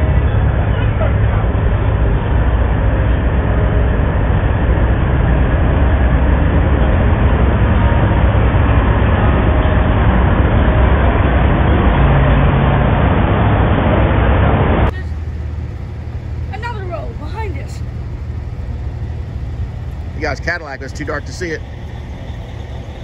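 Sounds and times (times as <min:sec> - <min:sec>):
diesel truck engines rumbling: 0:00.0 - 0:23.0.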